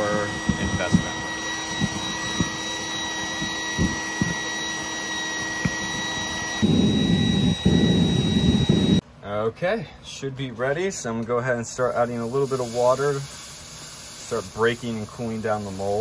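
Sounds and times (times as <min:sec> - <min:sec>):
oil burner rushing hiss: 0:00.0 - 0:09.0, 0:11.6 - 0:16.0
faint steady whine: 0:00.0 - 0:16.0.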